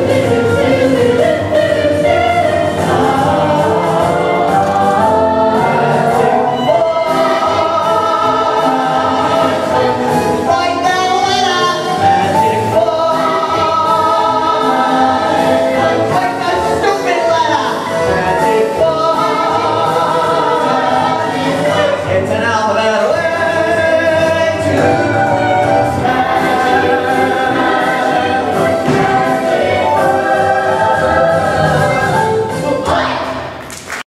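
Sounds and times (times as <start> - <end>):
ensemble singing: 0.0 - 33.6
instrumental accompaniment: 0.0 - 33.7.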